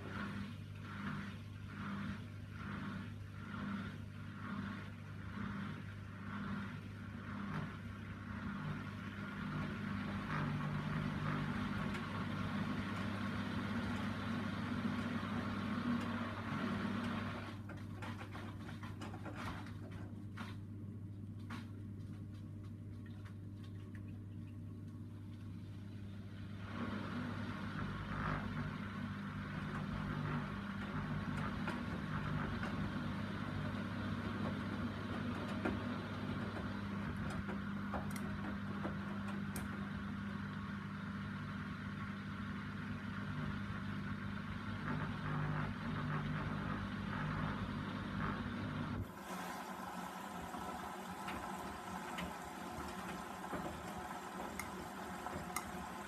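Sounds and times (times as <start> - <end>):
washing machine churning water: 0.0 - 56.0
washing machine hum: 0.0 - 56.0.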